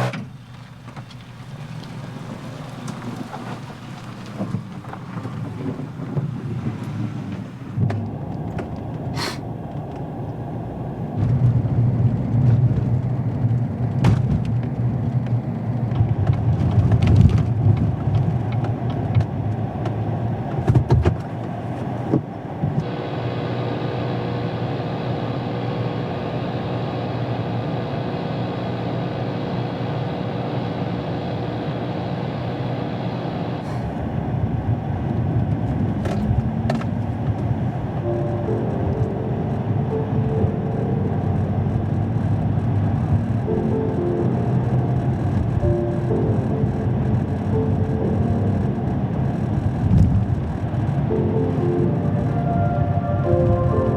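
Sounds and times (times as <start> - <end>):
engine knocks: 0.0 - 22.9, 33.6 - 53.9
engine rumbling: 0.0 - 53.9.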